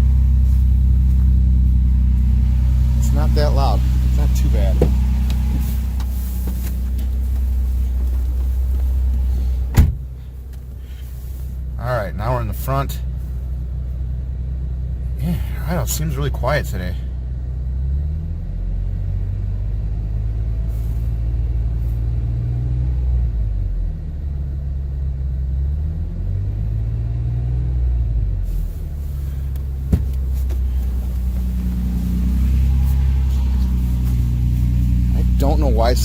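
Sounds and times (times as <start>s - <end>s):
truck engine idling: 0.0s - 25.7s, 28.1s - 36.0s.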